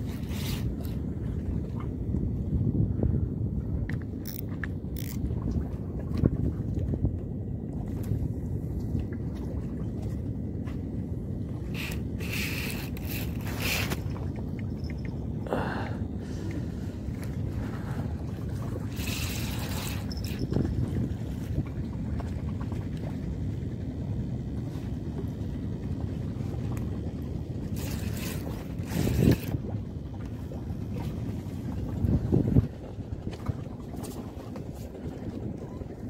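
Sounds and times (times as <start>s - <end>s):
sea water lapping: 0.0s - 36.0s
wind rumbling on microphone: 0.0s - 36.0s.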